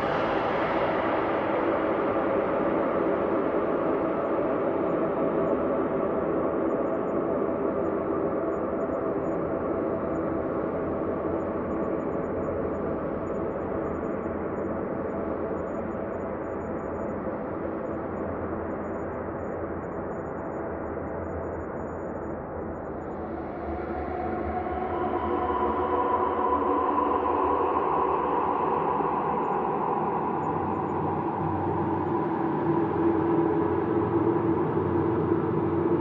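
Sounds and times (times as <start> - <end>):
ambient drone of layered tones: 0.0 - 36.0.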